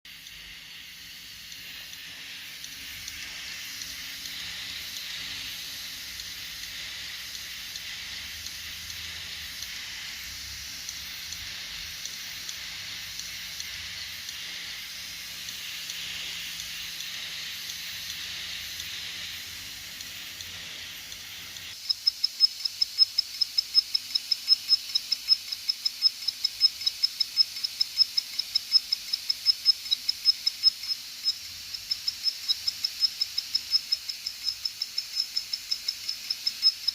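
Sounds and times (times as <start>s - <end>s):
hard drive hiss and hum: 0.1s - 36.9s
rapid high ticking: 0.1s - 36.9s.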